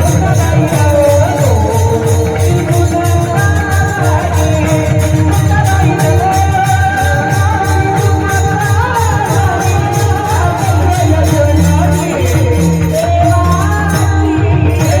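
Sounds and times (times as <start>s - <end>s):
jingling percussion: 0.0s - 15.0s
person singing devotional song: 0.0s - 15.0s.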